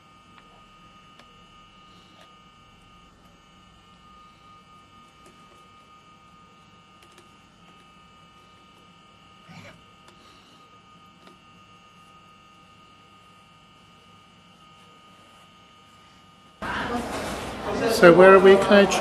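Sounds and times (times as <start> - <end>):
electrical hum and buzz: 0.0 - 19.0.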